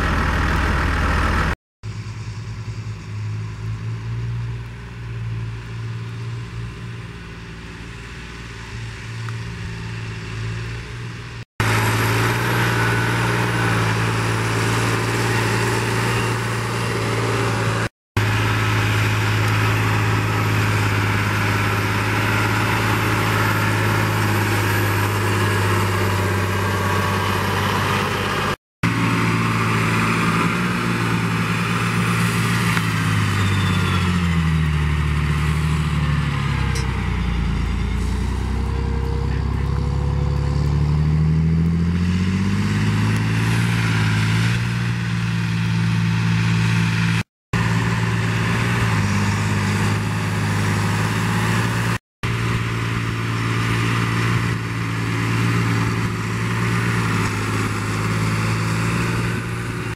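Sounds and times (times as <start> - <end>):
tractor diesel engines running: 0.0 - 59.9.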